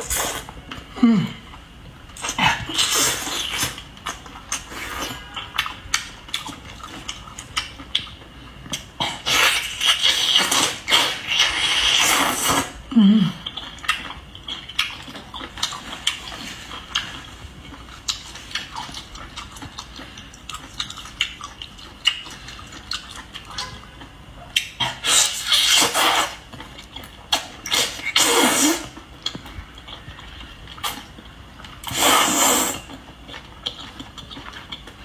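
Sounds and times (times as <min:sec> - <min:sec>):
slurping and chewing: 0:00.0 - 0:00.9, 0:01.5 - 0:35.0.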